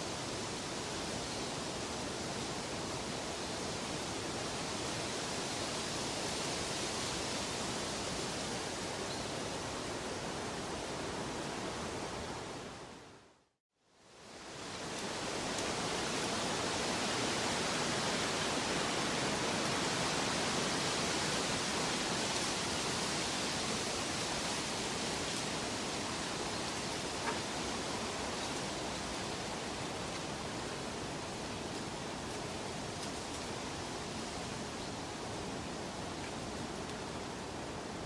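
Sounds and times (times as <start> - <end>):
nature ambience rushing noise: 0.0 - 38.0.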